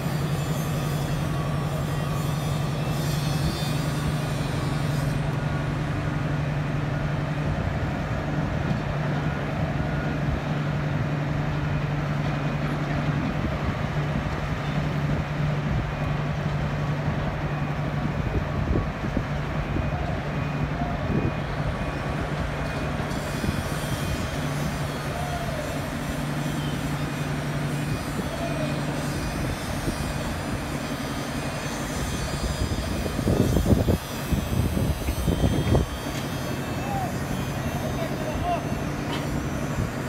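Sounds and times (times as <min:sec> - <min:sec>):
construction site noise: 0:00.0 - 0:40.0
heavy machinery engine humming: 0:00.0 - 0:40.0.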